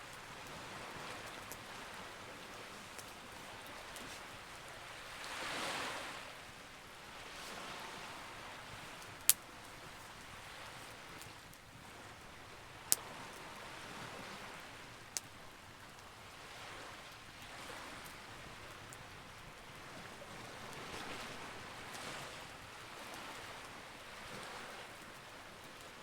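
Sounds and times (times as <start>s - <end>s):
campfire crackling hiss: 0.0s - 26.0s.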